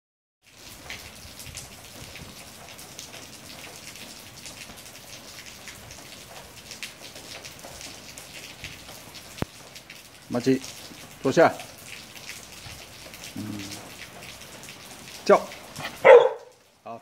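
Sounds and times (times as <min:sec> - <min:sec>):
rain falling: 0:00.4 - 0:17.0
raindrops ticking on hard surfaces: 0:00.4 - 0:17.0.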